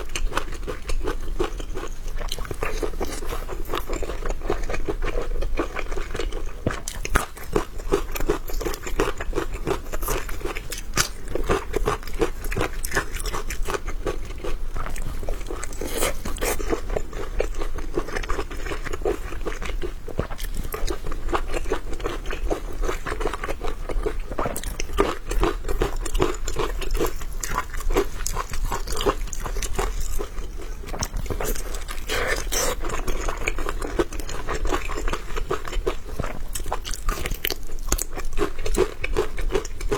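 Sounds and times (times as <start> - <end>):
person crunching food: 0.0 - 39.9.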